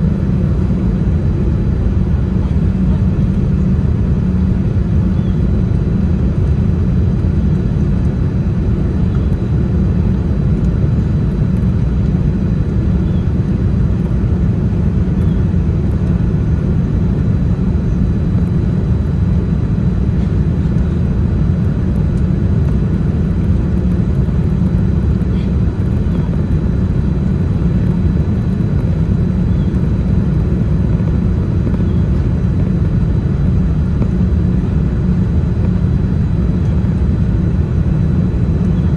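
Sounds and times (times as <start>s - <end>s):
airliner cabin low rumble: 0.0s - 38.9s
faint high whine: 0.0s - 38.9s.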